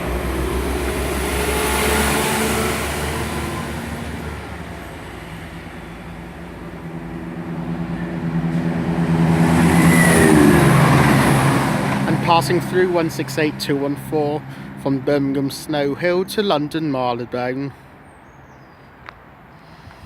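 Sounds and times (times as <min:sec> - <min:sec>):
diesel train pulling out: 0:00.0 - 0:18.0
diesel train running through: 0:00.0 - 0:18.0.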